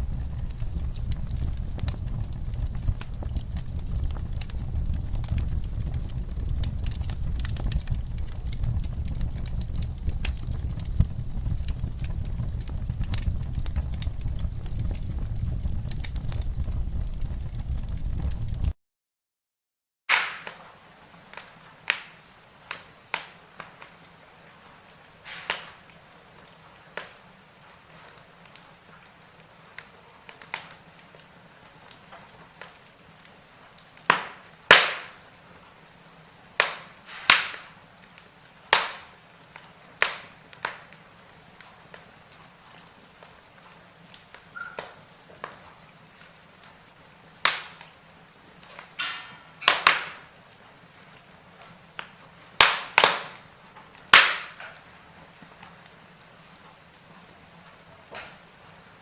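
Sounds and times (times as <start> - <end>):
fire crackling and popping: 0.0 - 18.8, 20.1 - 59.0.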